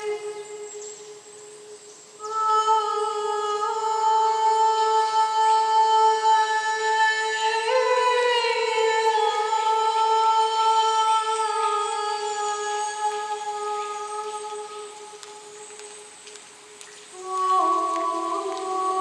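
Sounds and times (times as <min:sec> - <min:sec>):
woman singing long wordless note: 0:00.0 - 0:16.2, 0:17.1 - 0:19.0.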